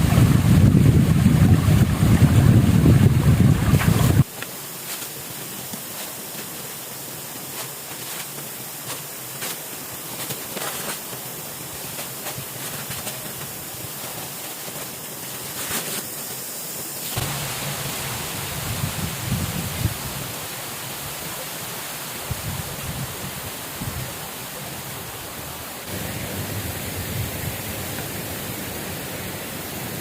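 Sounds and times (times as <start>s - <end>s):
hiss of water: 0.0s - 30.0s.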